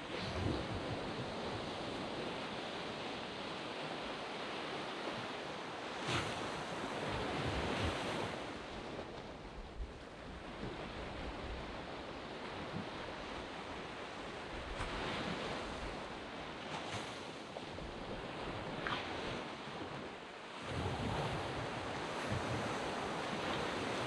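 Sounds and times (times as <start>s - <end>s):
waves breaking on beach: 0.0s - 24.0s
wind on microphone: 0.0s - 24.0s.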